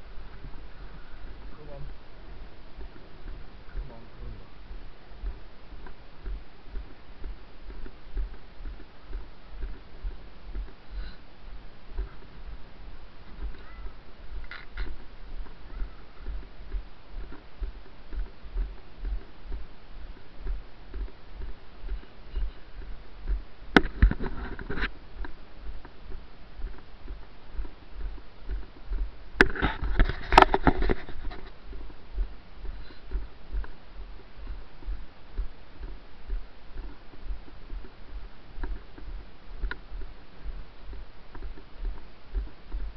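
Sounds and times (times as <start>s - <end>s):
footsteps on wet grass and mud: 0.0s - 42.9s.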